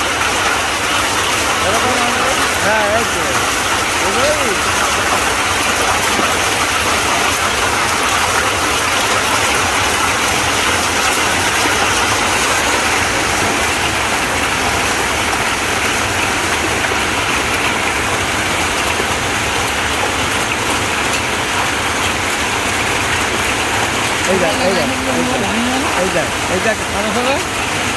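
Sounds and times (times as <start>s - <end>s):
hail and heavy rain falling: 0.0s - 27.9s.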